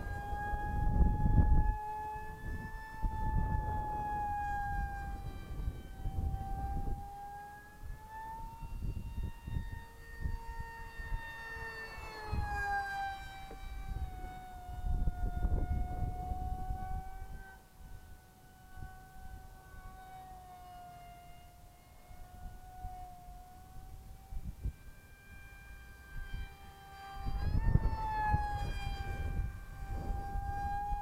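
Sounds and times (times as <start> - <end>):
wind rumbling on microphone: 0.0 - 20.6, 21.3 - 31.0
electric model jet whine: 0.0 - 31.0.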